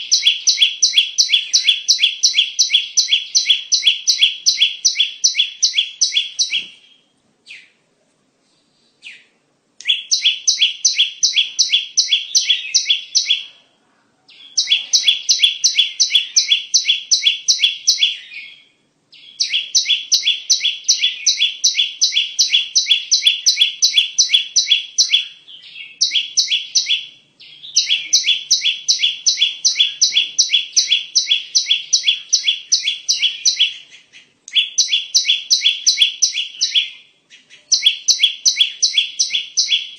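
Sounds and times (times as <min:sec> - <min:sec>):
bird chirping rapidly: 0:00.0 - 0:07.8, 0:09.0 - 0:13.6, 0:14.3 - 0:39.9.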